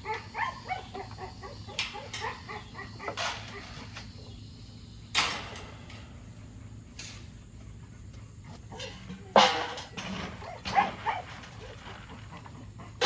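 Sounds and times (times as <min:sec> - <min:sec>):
dogs making faint calls: 0:00.0 - 0:04.3, 0:06.3 - 0:13.0.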